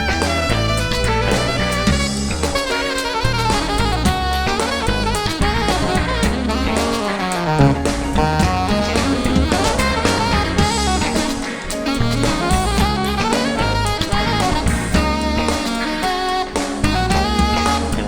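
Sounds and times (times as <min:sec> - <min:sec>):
drum kit playing: 0:00.0 - 0:18.0
saxophone lead melody: 0:00.0 - 0:18.0.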